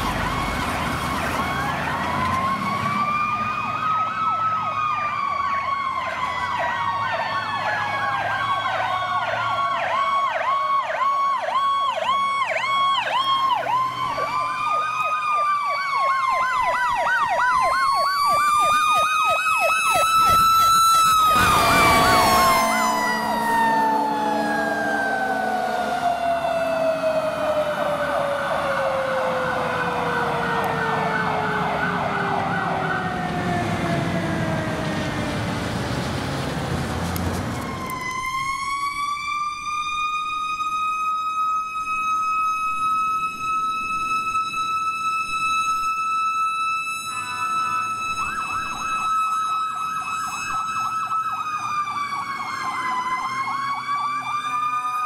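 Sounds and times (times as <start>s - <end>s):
siren wail: 0.0s - 55.0s
siren fast yelp: 3.0s - 33.5s, 37.6s - 55.0s.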